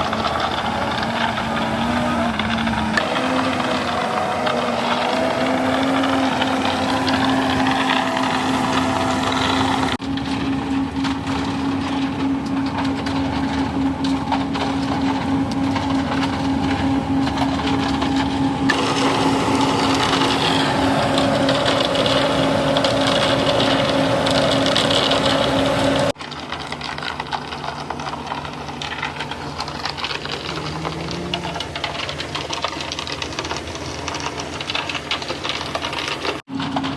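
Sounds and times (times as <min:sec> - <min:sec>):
heavy construction machinery engine drone: 0:00.0 - 0:36.9.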